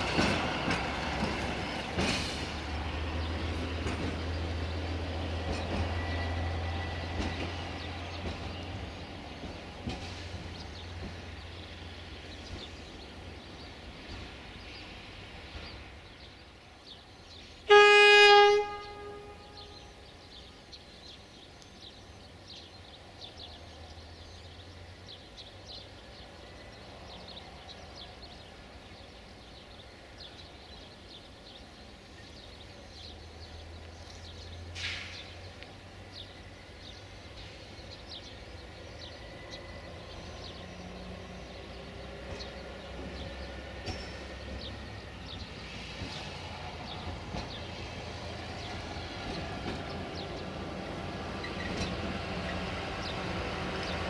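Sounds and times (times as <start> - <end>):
rail vehicle engine drone: 0.0 - 54.0.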